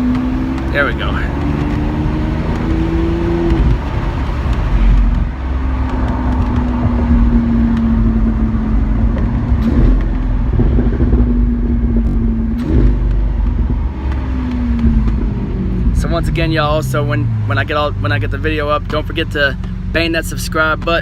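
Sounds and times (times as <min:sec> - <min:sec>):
car engine from inside cabin: 0:00.0 - 0:21.0
low road rumble: 0:00.0 - 0:21.0.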